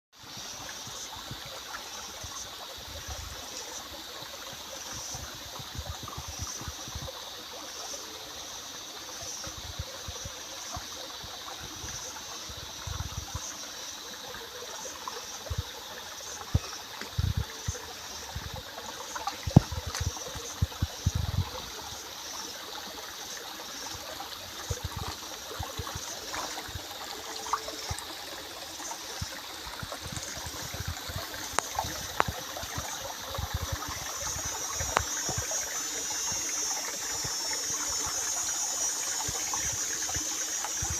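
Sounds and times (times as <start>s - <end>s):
water trickling: 0.2s - 40.9s.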